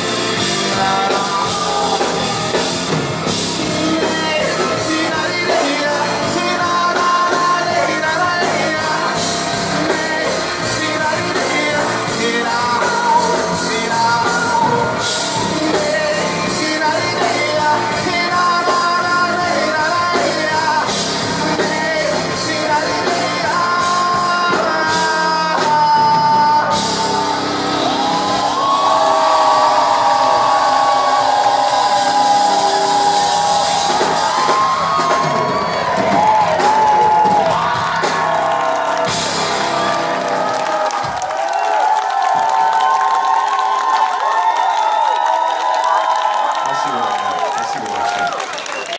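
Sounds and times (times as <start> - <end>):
person singing: 0.0 - 40.8
bass guitar: 0.0 - 41.5
drums: 0.0 - 48.9.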